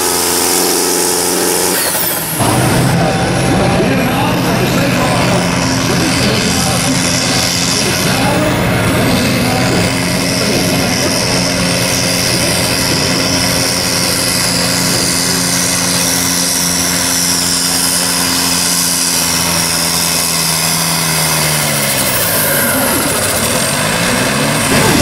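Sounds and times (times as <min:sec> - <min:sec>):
tractor engine under heavy load: 0:00.0 - 0:25.0.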